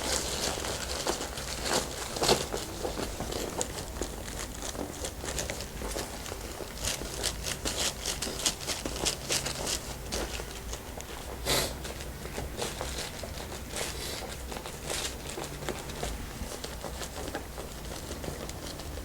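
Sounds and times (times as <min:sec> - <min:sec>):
hands rustling over skin and fabric: 0:00.0 - 0:19.0.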